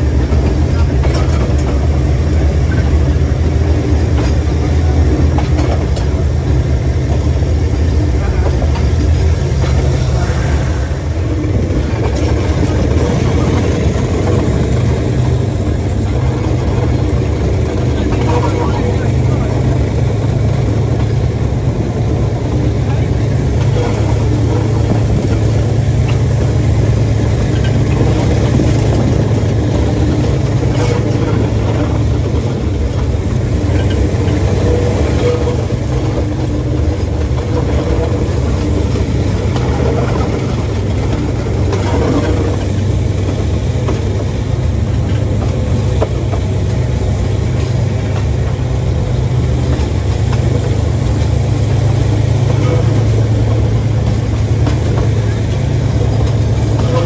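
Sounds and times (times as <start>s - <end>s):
diesel locomotive running: 0.0s - 57.0s.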